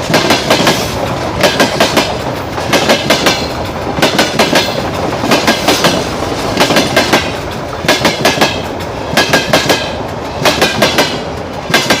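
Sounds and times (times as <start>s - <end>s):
train wheels clacking over rail joint: 0.0s - 12.0s.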